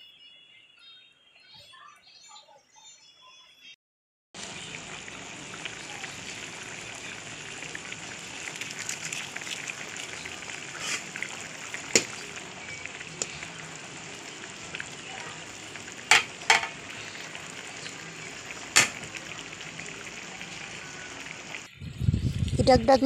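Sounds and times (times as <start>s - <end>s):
stew sizzling and bubbling in a wok: 4.4s - 23.0s.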